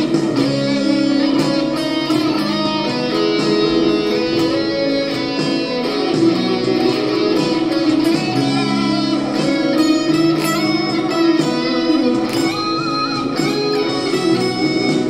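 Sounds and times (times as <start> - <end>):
backing track: 0.0 - 15.0
electric guitar solo: 0.0 - 15.0.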